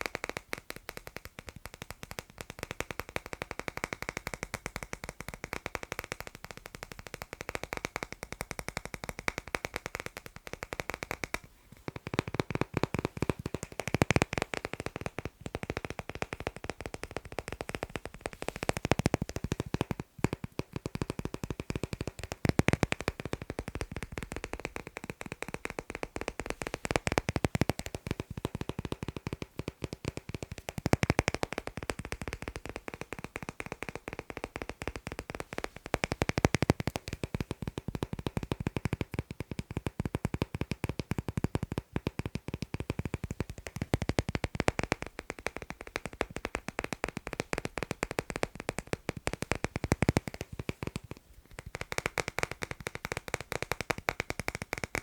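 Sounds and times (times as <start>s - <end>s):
fast tapping on magnets: 0.0s - 55.0s.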